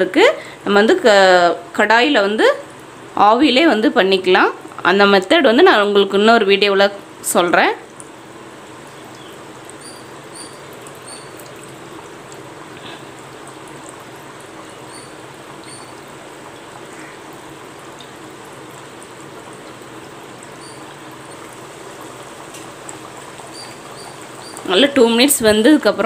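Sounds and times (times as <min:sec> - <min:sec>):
dough sizzling in hot oil: 0:00.0 - 0:26.0.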